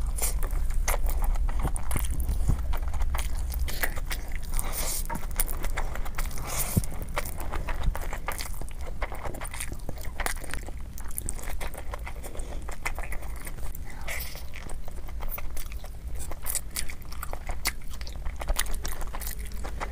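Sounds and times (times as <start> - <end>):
chewing and mouth smacks: 0.0 - 19.9.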